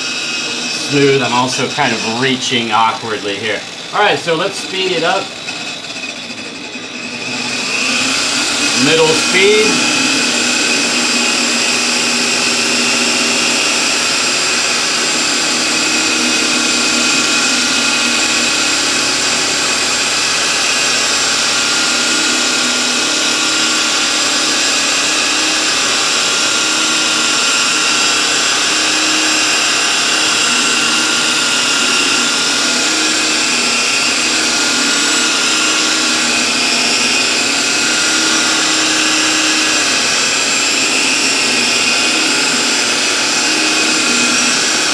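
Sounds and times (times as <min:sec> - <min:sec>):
rotary polisher whine: 0:00.0 - 0:44.9.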